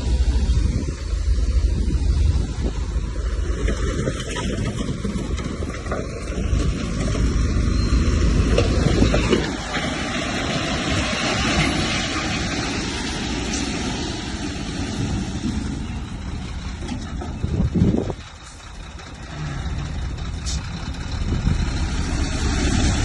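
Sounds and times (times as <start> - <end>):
heavy diesel machine running: 0.0 - 23.0.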